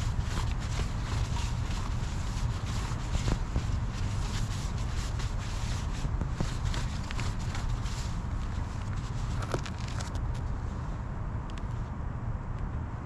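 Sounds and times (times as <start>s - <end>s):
scraping and rubbing clicks: 0.0s - 10.5s.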